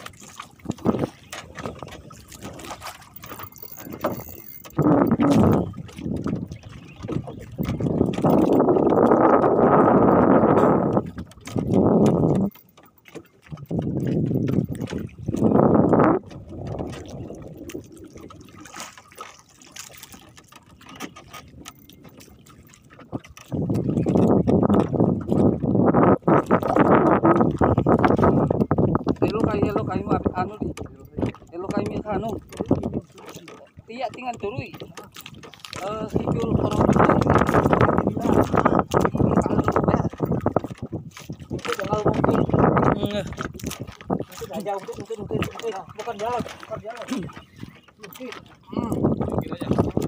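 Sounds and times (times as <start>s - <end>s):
water slapping boat hull: 0.0s - 50.0s.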